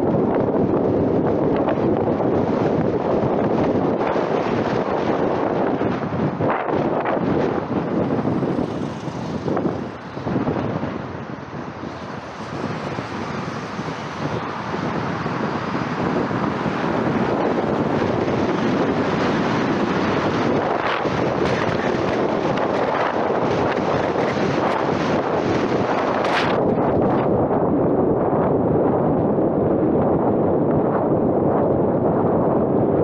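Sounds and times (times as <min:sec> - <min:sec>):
tyre and road noise: 0:00.0 - 0:33.0
wind buffeting microphone: 0:00.0 - 0:33.0.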